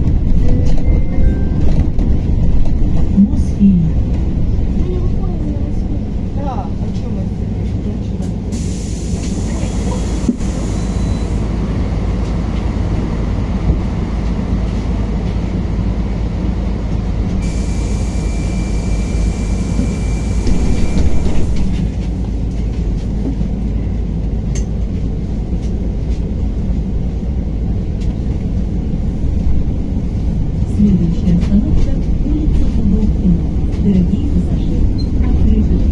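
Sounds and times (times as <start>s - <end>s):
bus road noise rumble: 0.0s - 35.9s.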